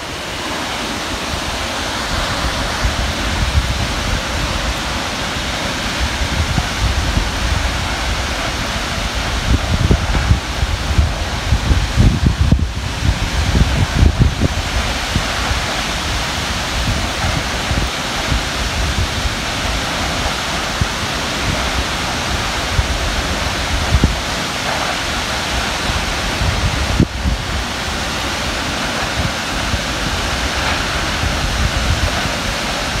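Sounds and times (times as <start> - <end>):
waterfall rushing onto rocks: 0.0 - 33.0.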